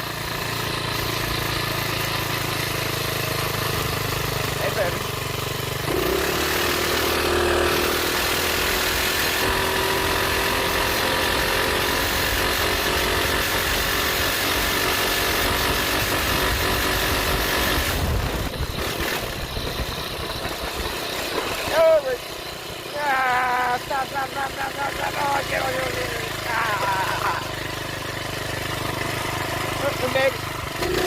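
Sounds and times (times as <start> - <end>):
minibike engine revving: 0.0 - 31.0.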